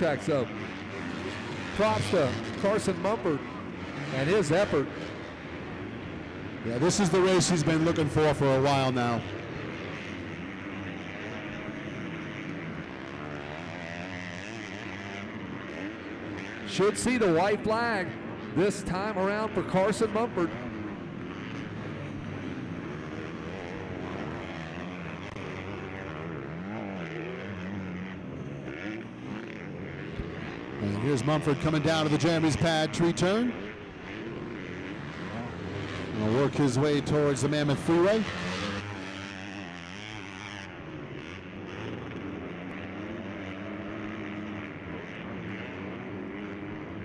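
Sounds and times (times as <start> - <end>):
motocross bike engines revving: 0.0 - 47.0.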